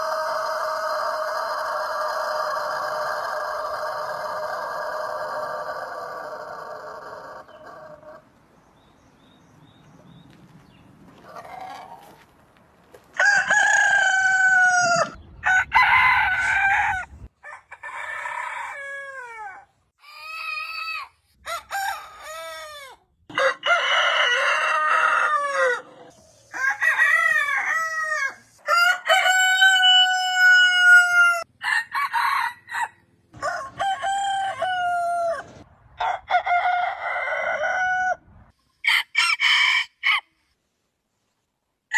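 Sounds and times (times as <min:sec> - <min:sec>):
roosters crowing: 0:00.0 - 0:08.3, 0:11.2 - 0:12.2, 0:13.1 - 0:40.3.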